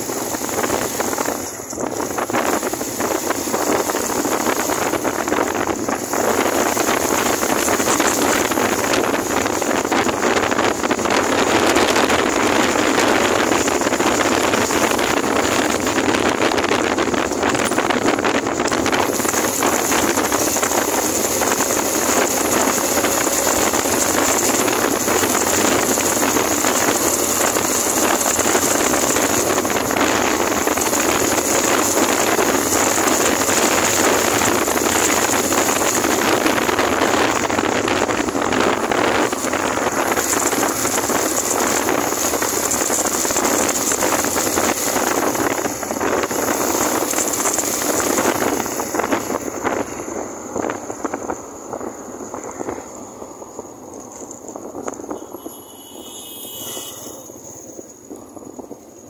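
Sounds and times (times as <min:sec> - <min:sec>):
wind rush over microphone: 0:00.0 - 0:56.0, 0:56.6 - 0:59.0
motorcycle engine: 0:00.0 - 0:59.0
road noise: 0:00.0 - 0:59.0.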